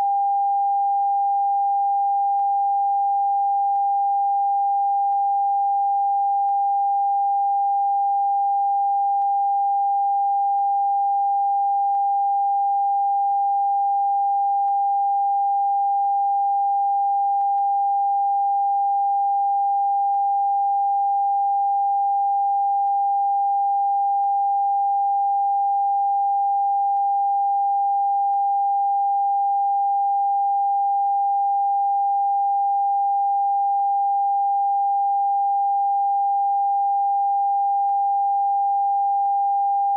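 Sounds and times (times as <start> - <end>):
steady pure tone beep: 0.0 - 39.9.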